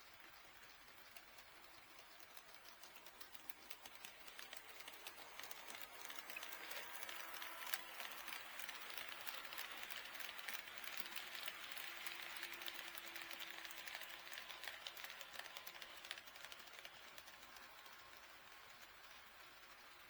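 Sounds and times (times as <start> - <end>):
model train rolling rattle: 0.0 - 20.0
wheels clicking on rails: 0.0 - 20.0.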